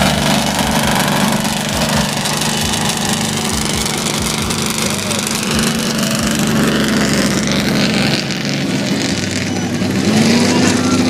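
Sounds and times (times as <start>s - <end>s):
car and motorcycle engines idling: 0.0s - 11.0s.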